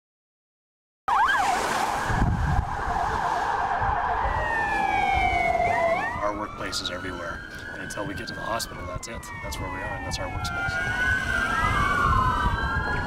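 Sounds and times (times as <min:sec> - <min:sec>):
emergency vehicle siren: 0:01.1 - 0:13.0.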